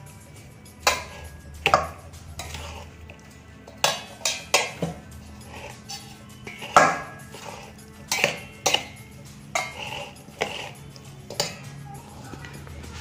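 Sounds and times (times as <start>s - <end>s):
spatula clinking on steel bowl: 0.0s - 12.3s
spatula scraping pickle: 0.3s - 13.0s.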